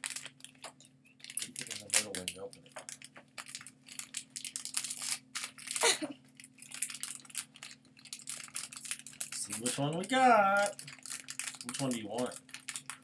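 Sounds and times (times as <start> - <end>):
plastic pack crinkling and tearing: 0.0 - 13.0.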